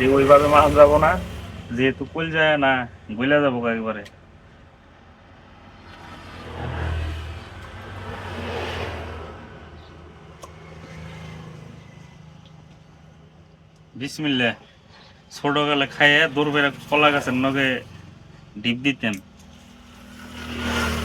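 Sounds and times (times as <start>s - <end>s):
vehicle passing on road: 0.0s - 14.0s, 15.4s - 21.0s.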